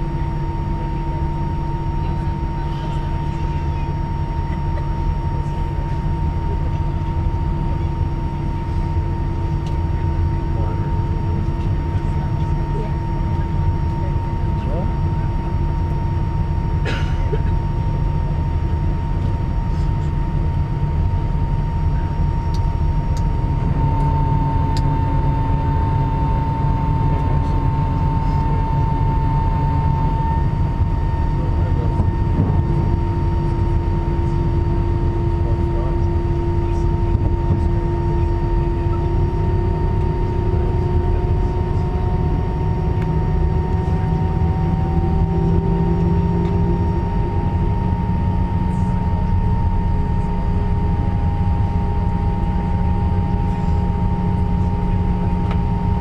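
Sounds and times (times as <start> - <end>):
aircraft cabin drone: 0.0 - 56.0
high steady whines: 0.0 - 56.0.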